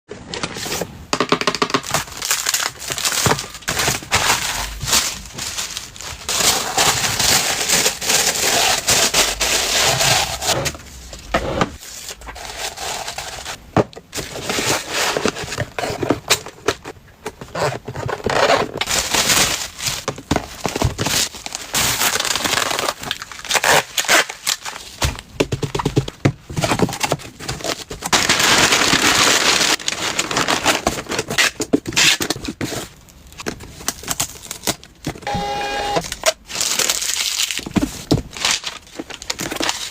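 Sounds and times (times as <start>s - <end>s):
packaging crinkling and rustling: 1.6s - 10.6s, 11.8s - 35.2s, 36.0s - 39.9s.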